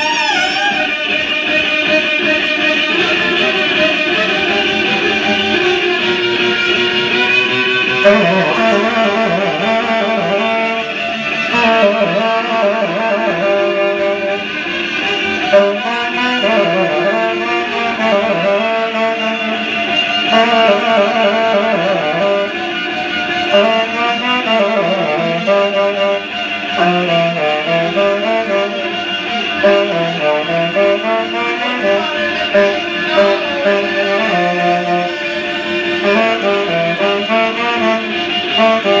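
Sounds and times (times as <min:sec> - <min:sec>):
saxophone melody: 0:00.0 - 0:39.0
violin accompaniment: 0:00.0 - 0:39.0.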